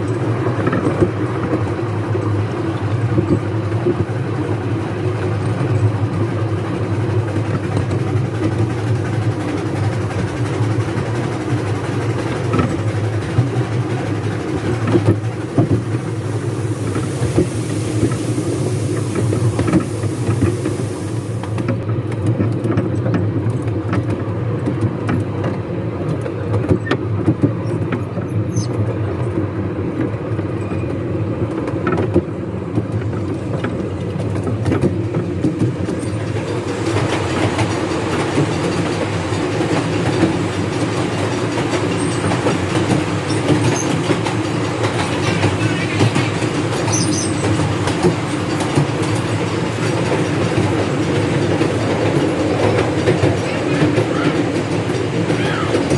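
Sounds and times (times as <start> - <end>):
clickety-clack over rail joints: 0.0 - 55.9
miniature train wheels on rail: 0.0 - 55.9.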